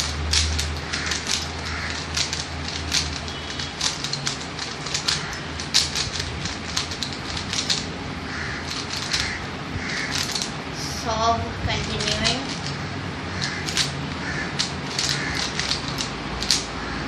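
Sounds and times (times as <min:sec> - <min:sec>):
plastic puzzle cube clicking: 0:00.0 - 0:07.9, 0:08.6 - 0:10.5, 0:11.8 - 0:12.8, 0:13.4 - 0:16.8.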